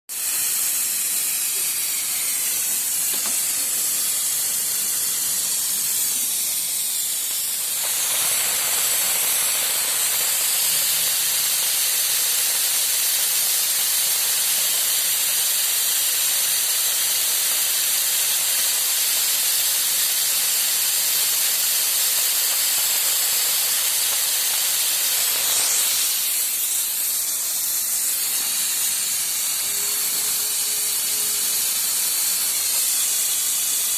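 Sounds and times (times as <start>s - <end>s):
steady hiss: 0.1s - 33.9s.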